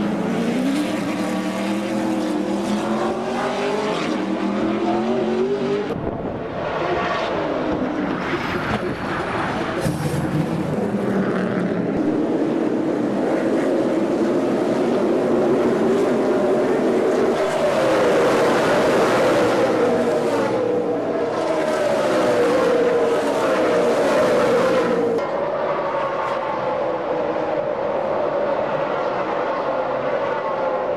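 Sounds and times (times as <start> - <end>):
race truck engines passing: 0.0 - 30.9.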